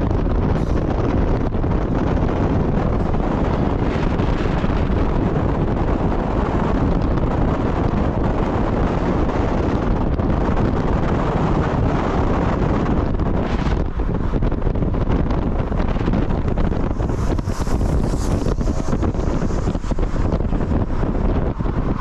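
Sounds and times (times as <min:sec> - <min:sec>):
vehicle and road rumble: 0:00.0 - 0:22.0
wind buffeting microphone: 0:00.0 - 0:22.0.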